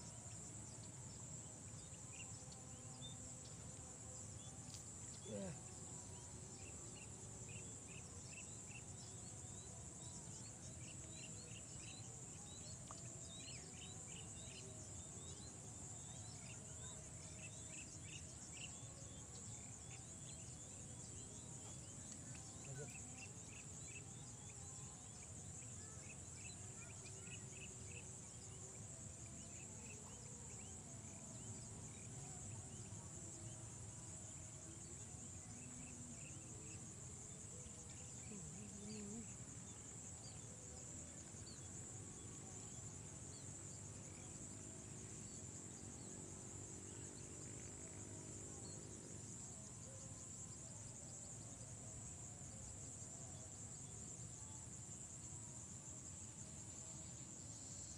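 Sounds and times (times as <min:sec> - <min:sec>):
faint low hum: 0:00.0 - 0:54.6
insect chorus: 0:00.0 - 0:57.9.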